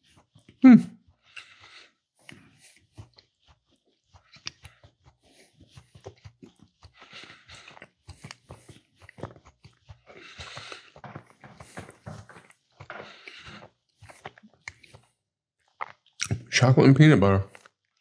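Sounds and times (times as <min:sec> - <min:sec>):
close chewing with mouth clicks: 0:00.0 - 0:16.5, 0:17.5 - 0:18.0.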